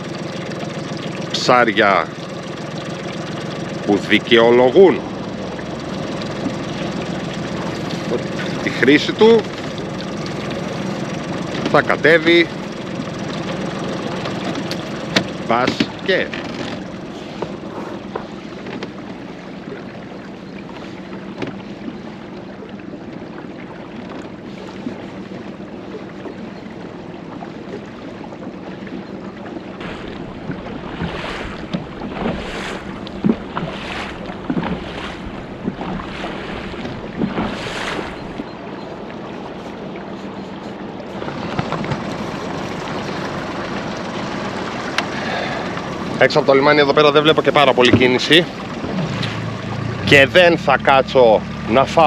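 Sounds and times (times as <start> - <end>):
motorboat engine humming: 0.0 - 52.0
water rushing along hull: 0.0 - 52.0
water splashes: 0.0 - 52.0.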